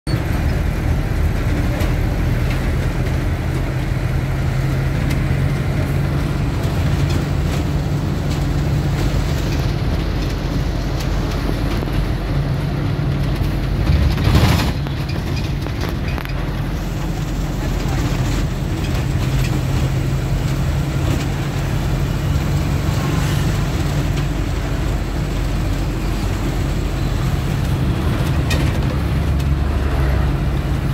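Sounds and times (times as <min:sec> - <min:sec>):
bus engine drone: 0:00.0 - 0:30.9
road rumble: 0:00.0 - 0:30.9.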